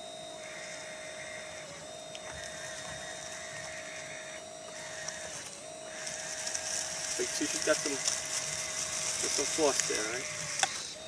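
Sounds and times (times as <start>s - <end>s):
electric drive motors whining: 0.0s - 11.0s
hydraulic pump whining: 0.0s - 11.0s
crackle of dry leaves: 0.4s - 10.9s.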